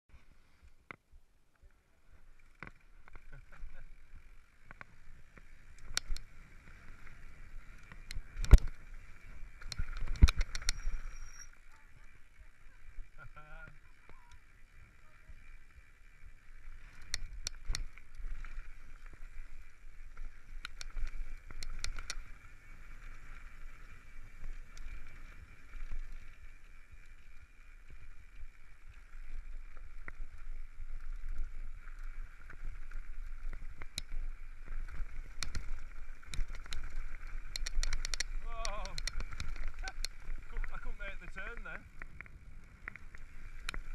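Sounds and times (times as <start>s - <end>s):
wind and tyres on loose stones: 2.1s - 43.9s.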